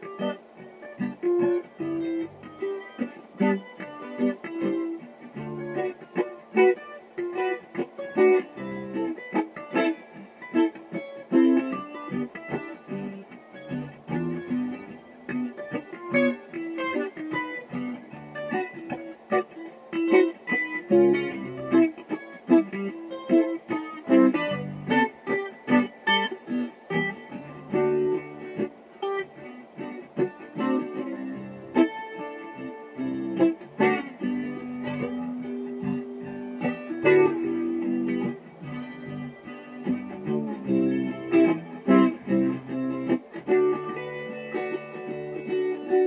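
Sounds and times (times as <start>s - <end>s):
solo electric guitar: 0.0s - 46.0s.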